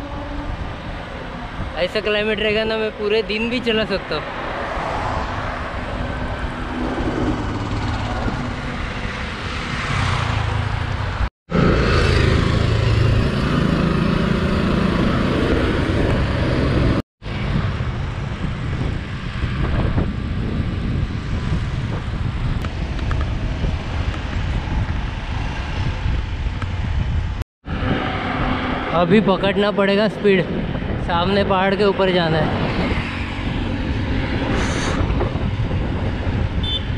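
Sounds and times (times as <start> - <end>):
highway traffic passing: 0.0 - 36.9
wind rumbling on microphone: 0.0 - 36.9.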